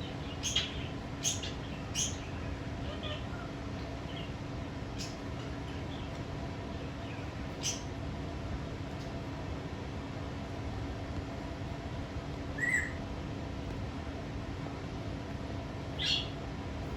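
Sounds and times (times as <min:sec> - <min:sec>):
steady background hum: 0:00.0 - 0:16.9.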